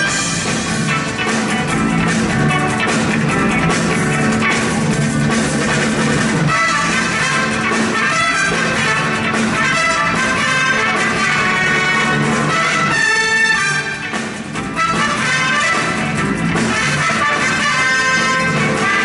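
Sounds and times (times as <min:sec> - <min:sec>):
jazz big band playing: 0:00.0 - 0:19.0.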